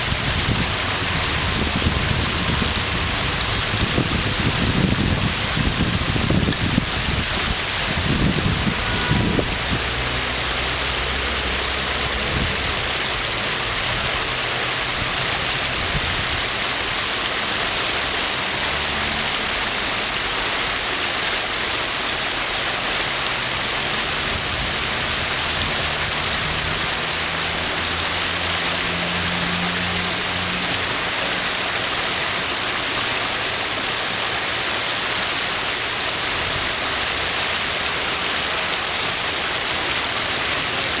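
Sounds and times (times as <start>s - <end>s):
creek water running over rocks: 0.0s - 41.0s.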